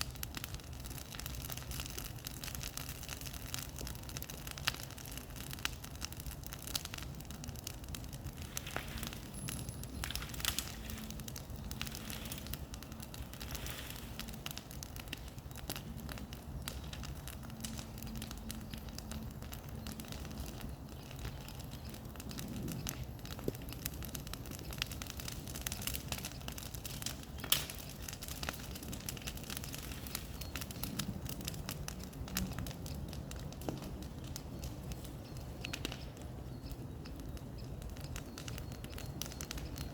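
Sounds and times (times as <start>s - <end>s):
bonfire crackling and popping: 0.0s - 39.9s.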